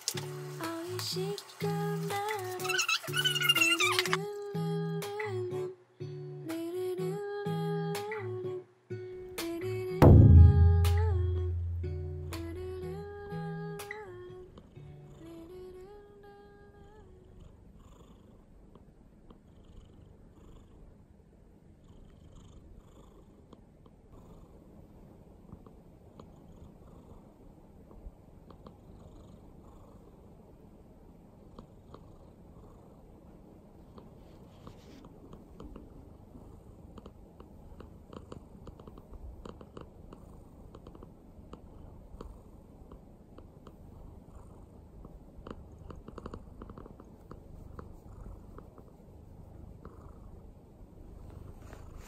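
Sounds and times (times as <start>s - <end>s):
cat purring: 10.0s - 52.0s.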